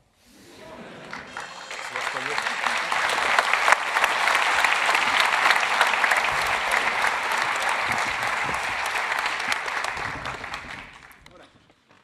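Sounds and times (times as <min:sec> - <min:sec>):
crowd applauding: 0:00.4 - 0:11.3.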